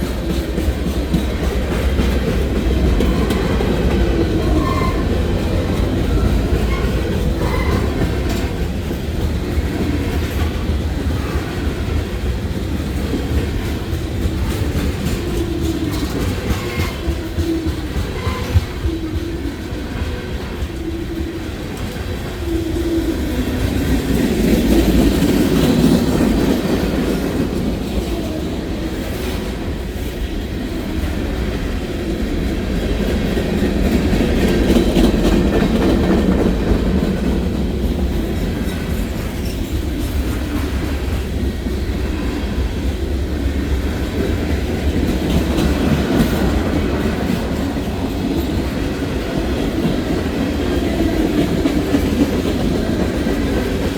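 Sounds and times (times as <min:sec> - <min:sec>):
freight train wheels rumbling on rail: 0:00.0 - 0:53.9
wheels clicking over rail joints: 0:00.0 - 0:53.9.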